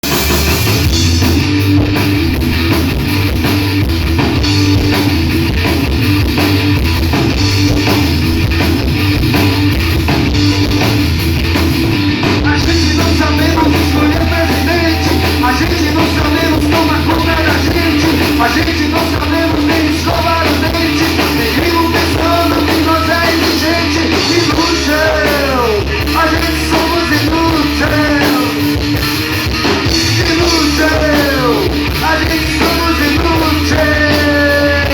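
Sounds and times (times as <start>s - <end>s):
bass guitar: 0.0s - 34.9s
distorted electric guitar: 0.0s - 34.9s
drum kit: 0.0s - 34.9s.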